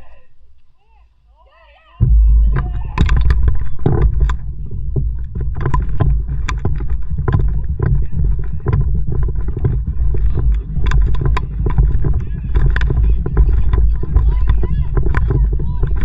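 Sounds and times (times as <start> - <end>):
paddle splashes and knocks: 2.0 - 16.0
water and wind rumble: 2.0 - 16.0.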